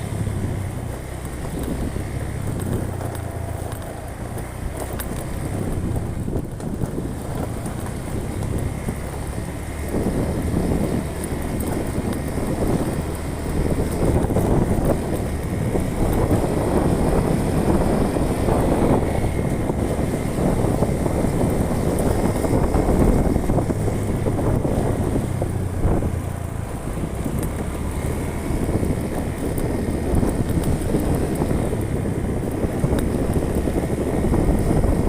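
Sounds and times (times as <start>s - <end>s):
road rumble: 0.0s - 35.0s
vehicle engine hum: 0.0s - 35.0s
wind buffeting the microphone: 0.0s - 35.0s.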